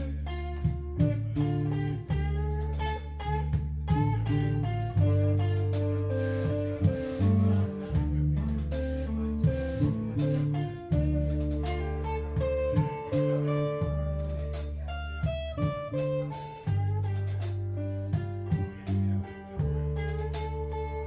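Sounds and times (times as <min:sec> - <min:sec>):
bass notes: 0:00.0 - 0:21.0
drums: 0:00.0 - 0:21.0
guitar: 0:00.0 - 0:21.0.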